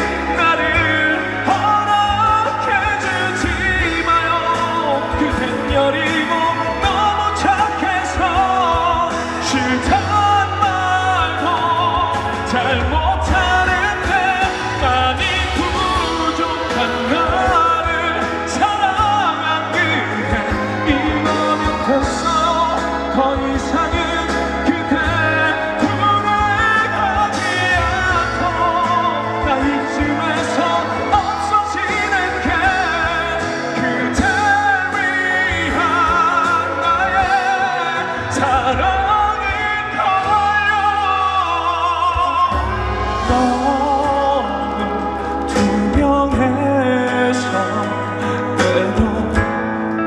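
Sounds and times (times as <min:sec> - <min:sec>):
amplified band playing: 0:00.0 - 0:50.0
man singing a ballad: 0:00.0 - 0:50.0.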